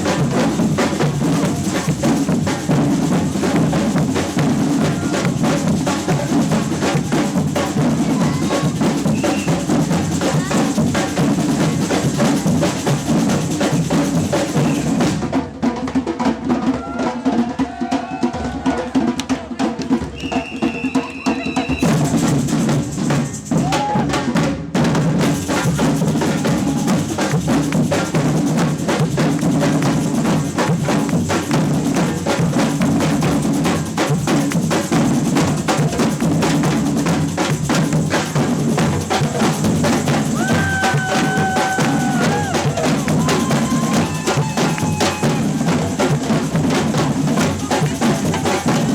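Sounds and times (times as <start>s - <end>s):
samba drum band playing: 0.0s - 48.9s.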